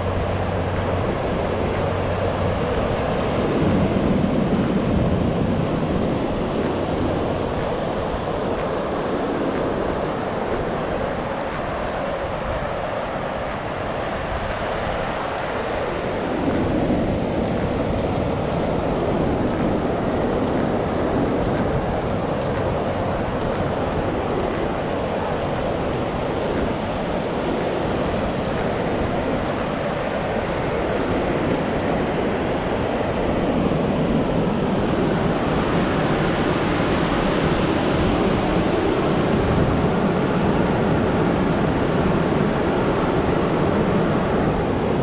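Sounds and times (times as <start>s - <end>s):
ocean waves breaking on beach: 0.0s - 45.0s.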